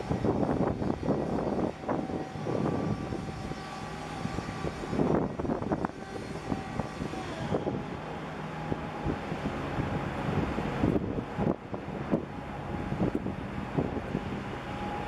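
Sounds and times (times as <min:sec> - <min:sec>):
ship engine drone: 0:00.0 - 0:15.0
wind buffeting microphone: 0:00.0 - 0:15.0.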